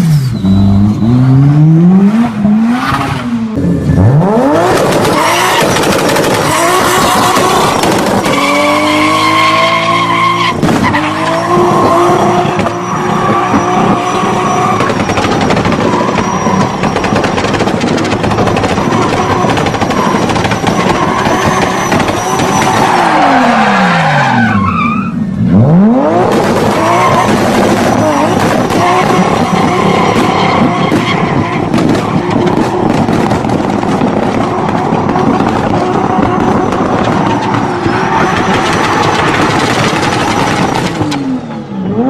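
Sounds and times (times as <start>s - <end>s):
turbocharged car engine revving: 0.0s - 24.6s, 25.2s - 42.0s.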